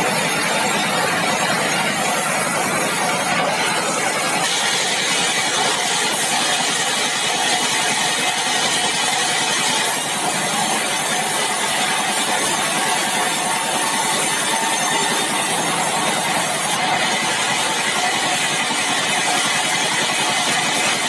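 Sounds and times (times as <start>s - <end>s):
sawmill saw and engine running: 0.0s - 21.0s.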